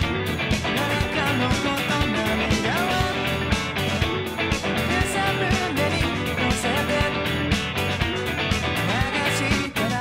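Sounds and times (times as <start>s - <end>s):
drums on a steady beat: 0.0s - 10.0s
electric guitar: 0.0s - 10.0s
rock band playing: 0.0s - 10.0s.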